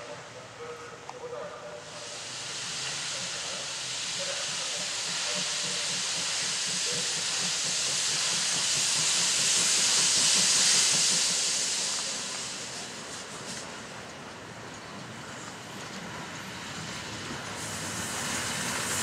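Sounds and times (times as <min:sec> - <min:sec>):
steam locomotive approaching: 0:00.0 - 0:19.0
hiss of escaping steam: 0:01.2 - 0:19.0.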